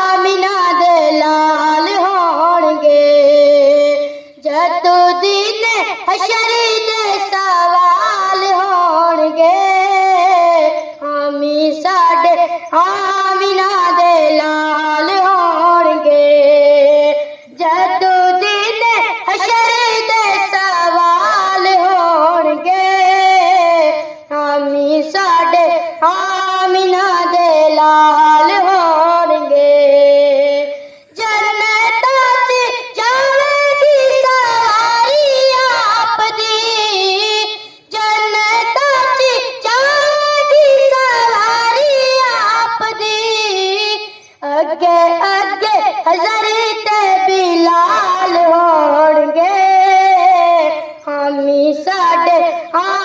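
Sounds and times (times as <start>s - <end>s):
boy singing into microphone: 0.0s - 53.0s.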